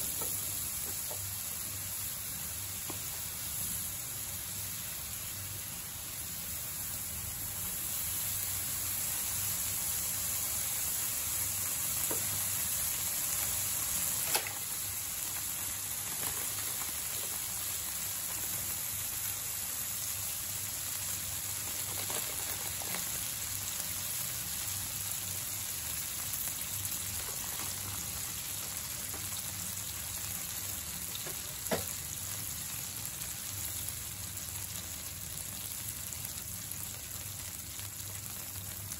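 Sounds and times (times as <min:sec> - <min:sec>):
food sizzling on a griddle: 0:00.0 - 0:38.9.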